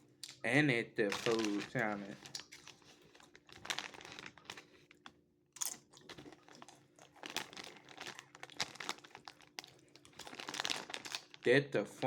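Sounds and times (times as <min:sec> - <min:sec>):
person chewing crunchy food: 0:01.1 - 0:11.4.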